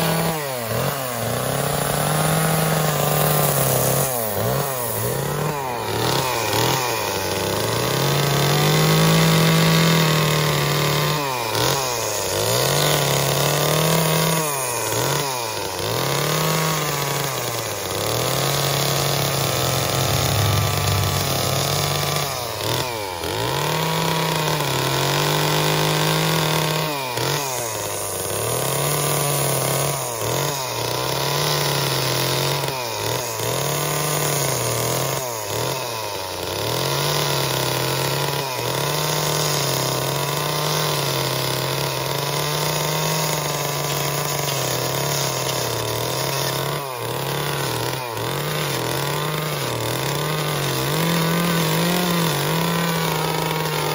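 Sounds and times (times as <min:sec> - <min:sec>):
chainsaw carving wood: 0:00.0 - 0:53.9.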